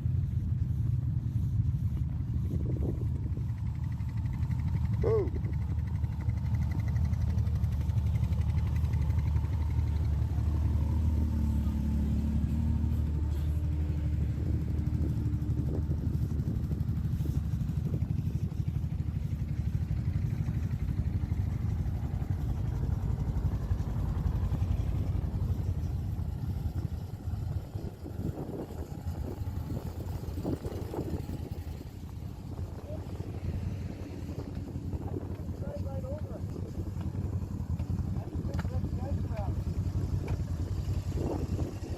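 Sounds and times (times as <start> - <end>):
engine droning: 0.0 - 41.9.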